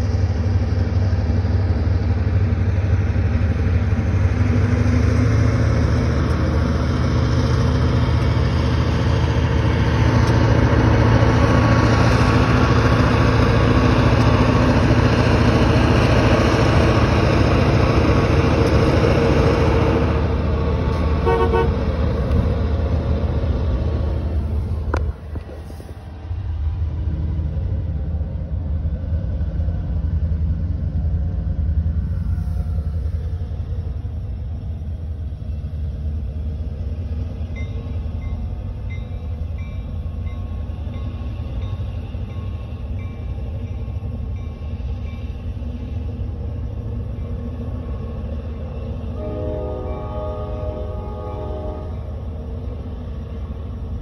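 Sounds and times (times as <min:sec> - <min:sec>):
diesel freight train rumbling: 0:00.0 - 0:54.0.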